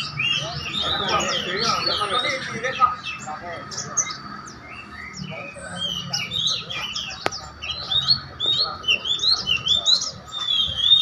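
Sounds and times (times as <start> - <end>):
caged songbirds chirping: 0.0 - 11.0
low voices murmuring: 0.0 - 11.0.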